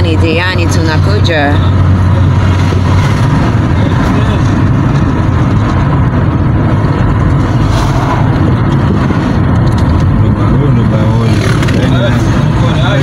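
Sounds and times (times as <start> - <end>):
car cabin engine and road noise: 0.0 - 13.0.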